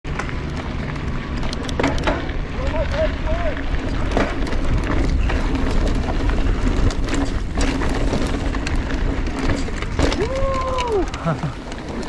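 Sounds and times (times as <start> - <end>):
bike clattering clicks: 0.1 - 12.0
tyres crunching over gravel: 0.1 - 12.0
wind rumble on microphone: 0.2 - 12.0.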